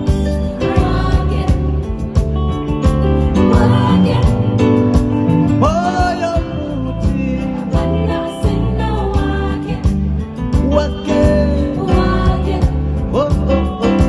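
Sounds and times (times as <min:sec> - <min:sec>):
bass line: 0:00.0 - 0:14.0
guitar: 0:00.0 - 0:14.0
live band music: 0:00.0 - 0:14.0.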